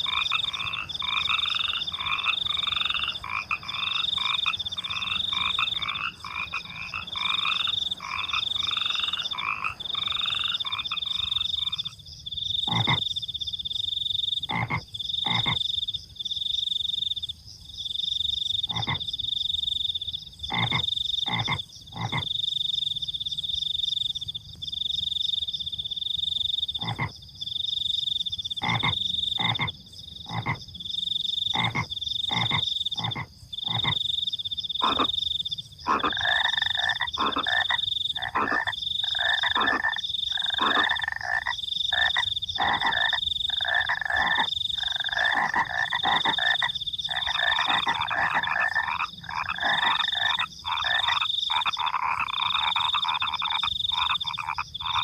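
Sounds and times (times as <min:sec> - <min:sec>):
crickets trilling: 0:00.0 - 0:55.0
frogs croaking: 0:00.0 - 0:55.0.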